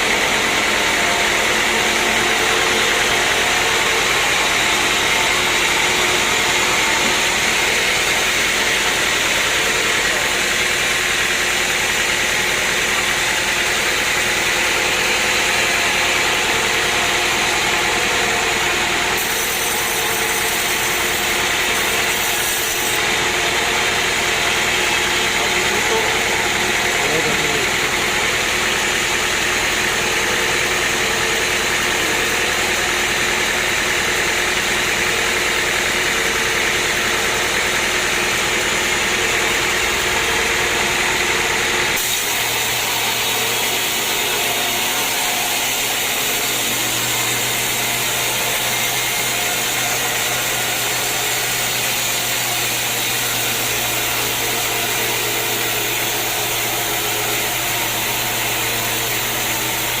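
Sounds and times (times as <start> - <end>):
sawmill machinery running: 0.0 - 60.0.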